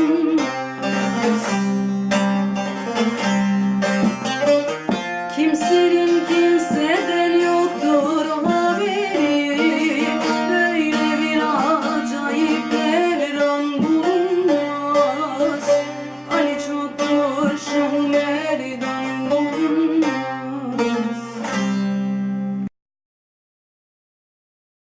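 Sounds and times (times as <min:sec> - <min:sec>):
plucked lute melody: 0:00.0 - 0:22.7.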